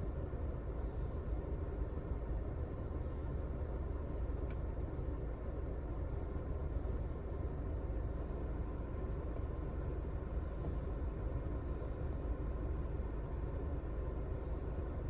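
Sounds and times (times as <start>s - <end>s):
car cabin rumble and hiss: 0.0s - 15.0s.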